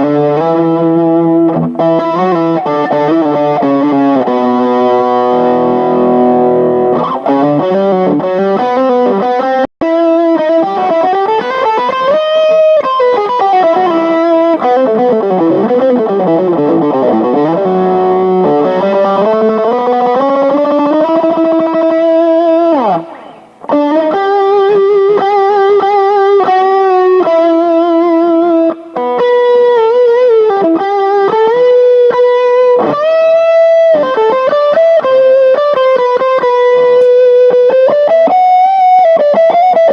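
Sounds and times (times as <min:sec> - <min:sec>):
electric guitar lead playing: 0:00.0 - 0:39.9.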